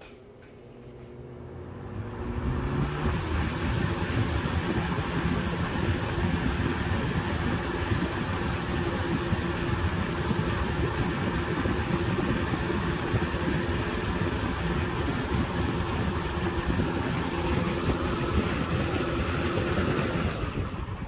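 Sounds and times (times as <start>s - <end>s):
box fan running: 0.0s - 21.0s.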